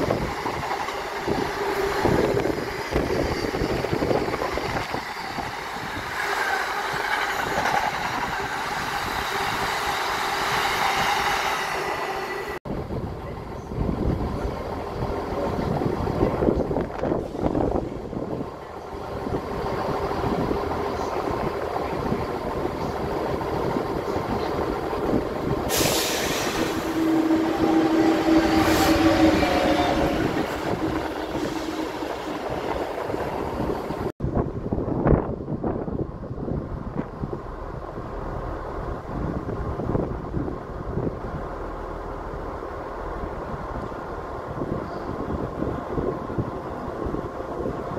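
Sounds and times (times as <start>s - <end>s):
freight train passing: 0.0s - 47.9s.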